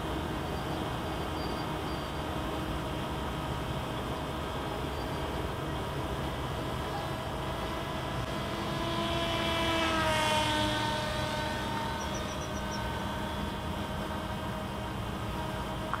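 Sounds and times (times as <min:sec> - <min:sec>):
electric motor and propeller whine: 0:00.0 - 0:16.0
steady background hiss: 0:00.0 - 0:16.0.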